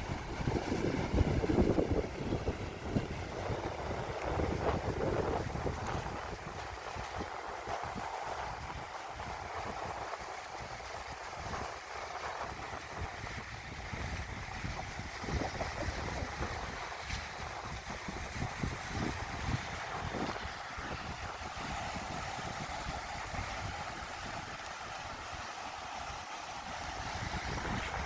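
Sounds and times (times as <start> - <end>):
wind buffeting microphone: 0.0 - 25.5, 26.6 - 28.0
steady wash of noise: 0.0 - 28.0.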